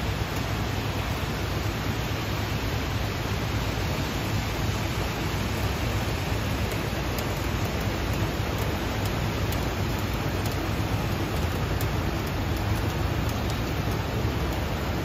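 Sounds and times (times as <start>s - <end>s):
fast-running stream: 0.0s - 15.0s
heavy rain hissing: 0.0s - 15.0s.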